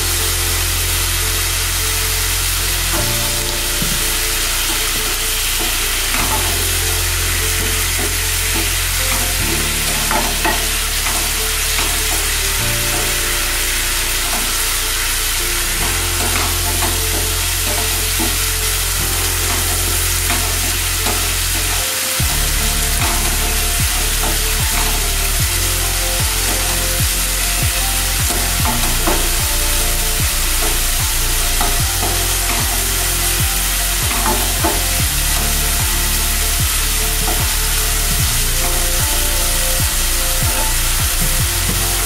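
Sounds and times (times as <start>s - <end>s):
oil sizzling: 0.0s - 42.0s.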